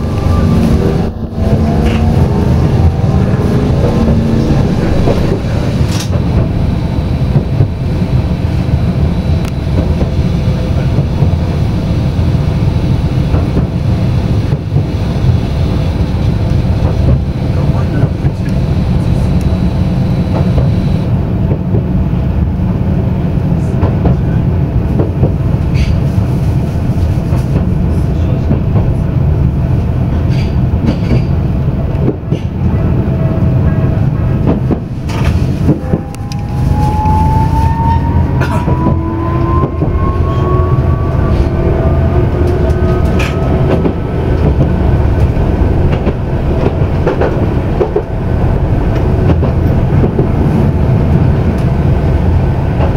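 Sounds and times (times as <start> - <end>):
tram motor whine: 0.0 - 52.9
tram rumbling on rails: 0.0 - 52.9.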